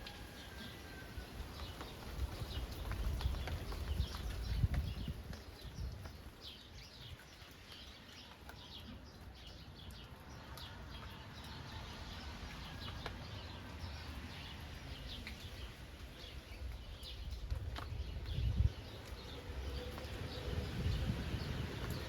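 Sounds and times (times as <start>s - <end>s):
small birds chirping: 1.5s - 22.0s.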